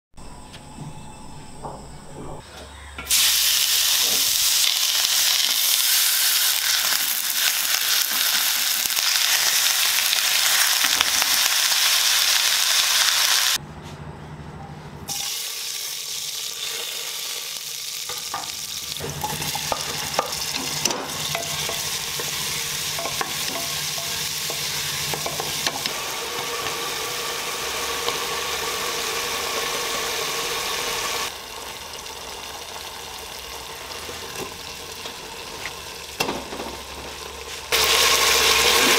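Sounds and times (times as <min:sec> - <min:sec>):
meat sizzling loudly in a wok: 0:03.1 - 0:13.6, 0:15.1 - 0:38.9
onions frying in oil: 0:03.1 - 0:13.6, 0:15.1 - 0:38.9.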